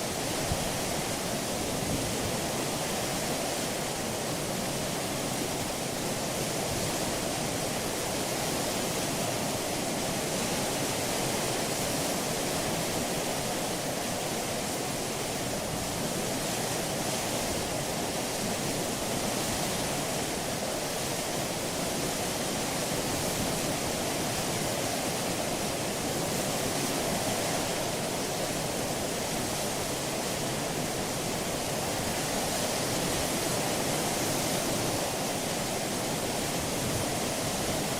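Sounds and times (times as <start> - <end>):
sea washing along ship hull: 0.0 - 37.9.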